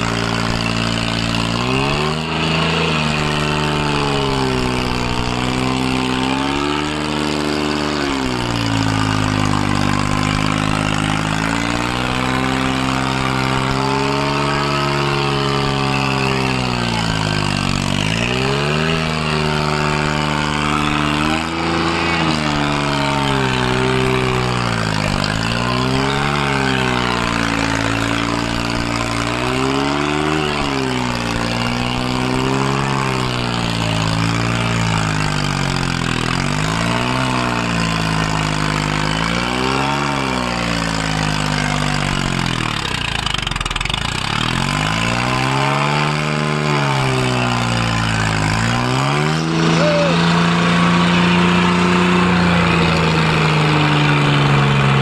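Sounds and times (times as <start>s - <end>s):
tractor diesel engine labouring: 0.0s - 55.0s.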